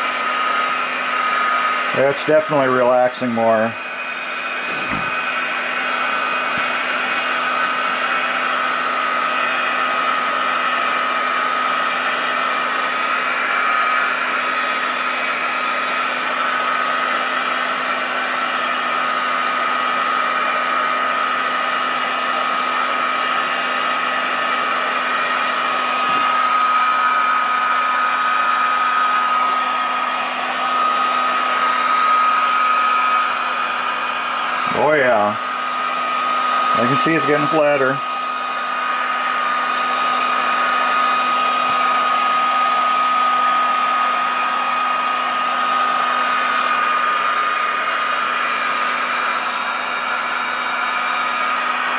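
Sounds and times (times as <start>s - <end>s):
heat gun fan whining: 0.0s - 51.9s.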